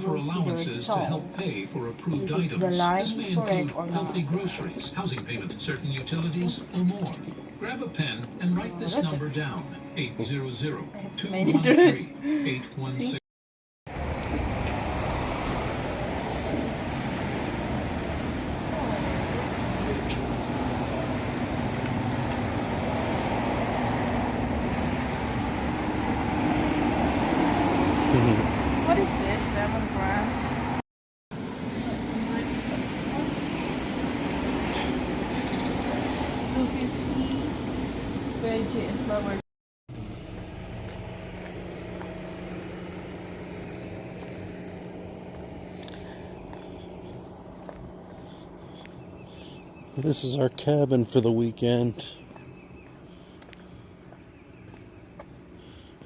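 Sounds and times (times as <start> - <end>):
car road and engine noise: 0.0 - 11.4, 13.9 - 56.0.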